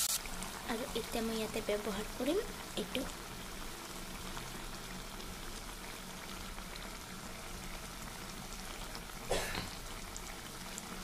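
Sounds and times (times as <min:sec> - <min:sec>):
gravy bubbling in a wok: 0:00.0 - 0:11.0.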